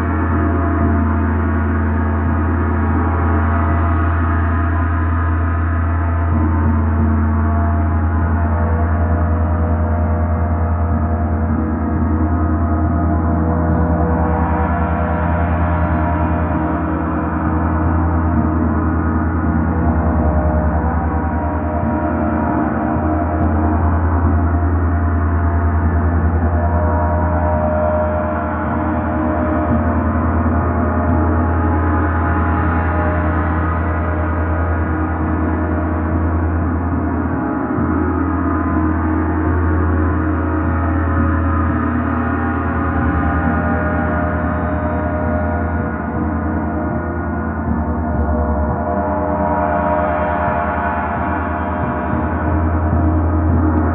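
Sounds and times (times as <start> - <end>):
large gong ringing: 0.0 - 53.9.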